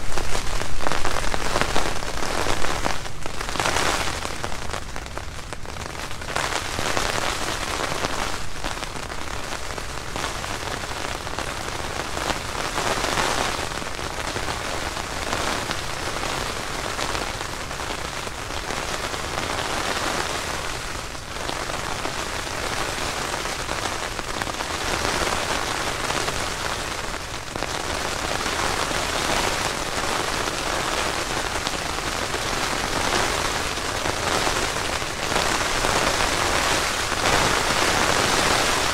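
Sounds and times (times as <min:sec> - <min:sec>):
rain on a tent: 0:00.0 - 0:38.9.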